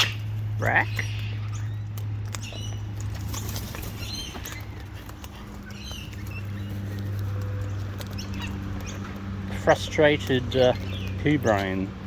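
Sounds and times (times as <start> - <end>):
bird chirps: 0.0 - 9.2, 10.6 - 11.8
birds pecking on ground: 0.0 - 12.0.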